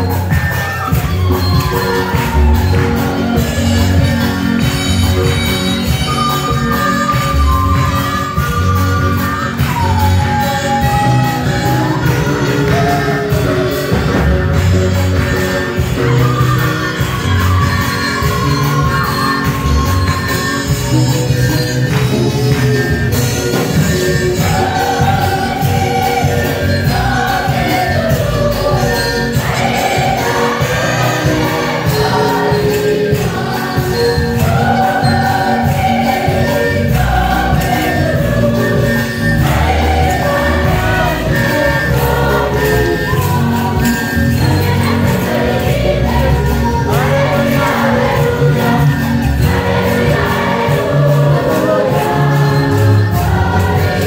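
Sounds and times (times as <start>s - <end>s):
choir and congregation singing hymn: 0.0s - 54.0s
instrumental accompaniment with beat: 0.0s - 54.0s.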